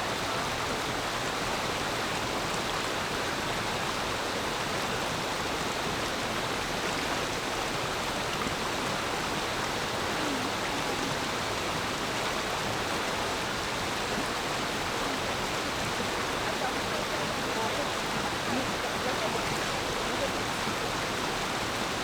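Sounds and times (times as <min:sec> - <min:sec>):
stream flowing over rocks: 0:00.0 - 0:22.0.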